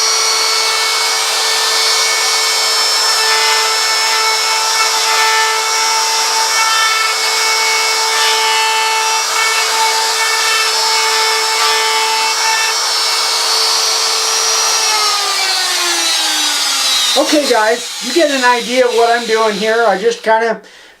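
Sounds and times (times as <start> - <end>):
power tool cutting wood: 0.0 - 20.5.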